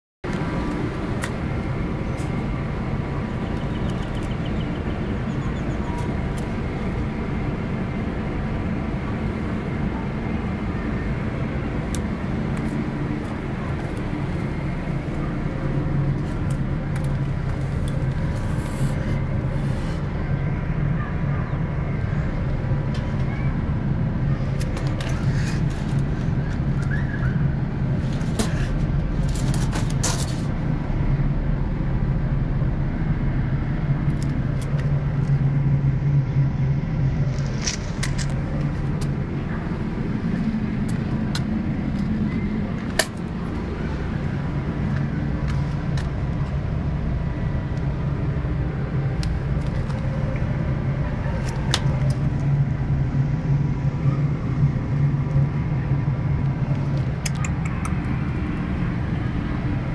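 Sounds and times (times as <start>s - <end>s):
machinery drone with whining tones: 0.3s - 59.9s.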